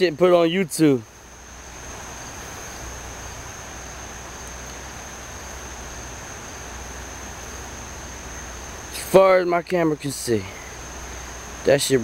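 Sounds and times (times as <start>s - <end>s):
insects trilling: 0.0s - 12.0s
outdoor hiss and low rumble: 0.0s - 12.0s.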